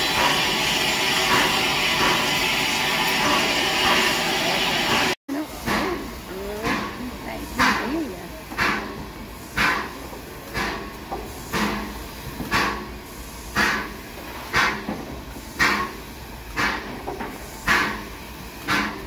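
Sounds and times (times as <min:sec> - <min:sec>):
steam locomotive hissing puffs: 0:00.0 - 0:19.0.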